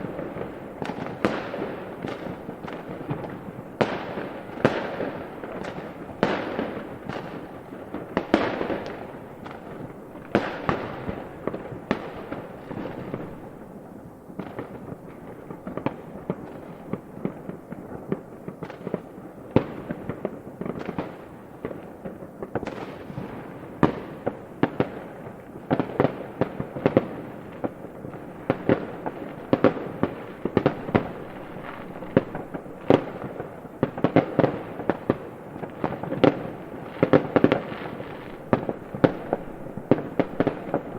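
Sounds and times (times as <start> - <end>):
fireworks bangs: 0.0 - 13.6, 14.4 - 40.9
fireworks crackling and rumbling: 0.0 - 40.9.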